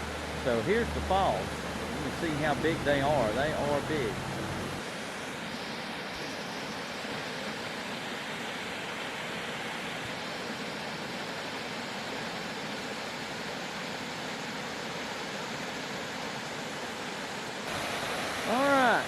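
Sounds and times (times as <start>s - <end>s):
waterfall rushing: 0.0s - 13.6s, 17.0s - 19.0s.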